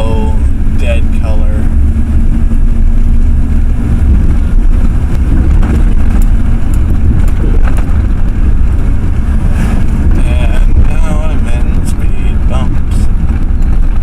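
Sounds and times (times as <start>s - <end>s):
truck engine and road noise: 0.0s - 14.0s.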